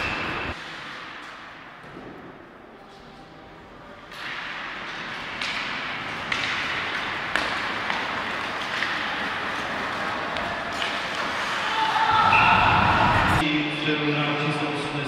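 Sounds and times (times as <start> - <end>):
hockey sticks and puck clacking: 0.0 - 12.6.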